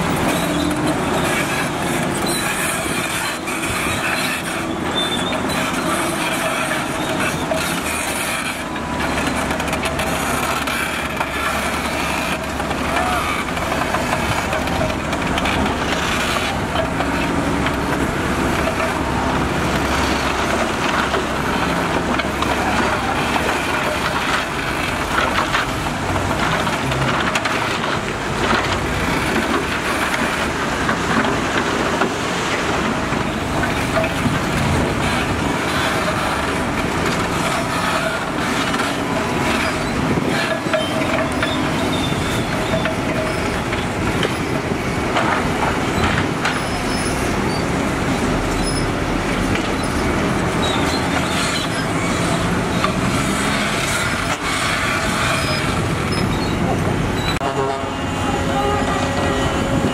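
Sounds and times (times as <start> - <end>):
heavy machinery engines running: 0.0 - 59.9.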